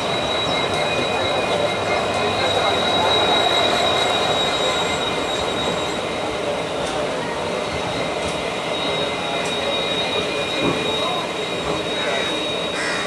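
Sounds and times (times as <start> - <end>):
high-pitched wheel squeal: 0.0 - 13.0
train wheels on rail: 0.0 - 13.0.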